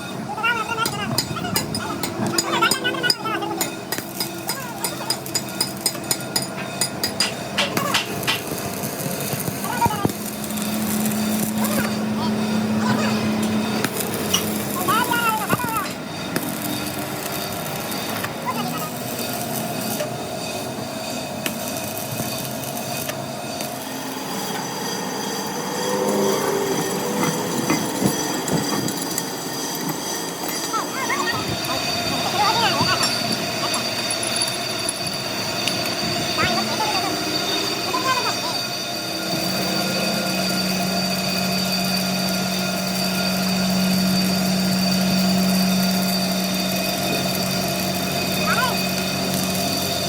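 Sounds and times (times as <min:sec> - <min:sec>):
machine motor hum: 0:00.0 - 0:50.0
steady metallic whine: 0:00.0 - 0:50.0.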